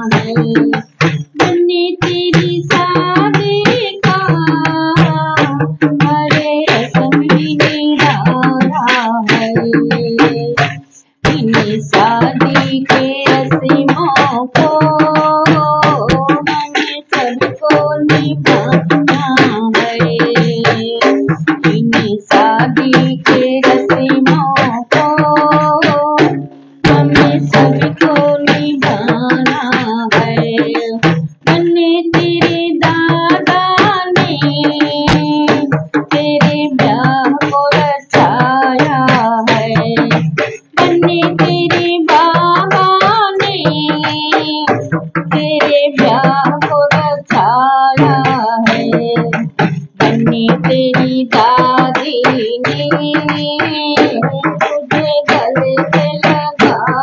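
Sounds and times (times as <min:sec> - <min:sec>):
frame drum fast rhythm: 0:00.0 - 0:57.0
woman singing folk song: 0:00.0 - 0:57.0.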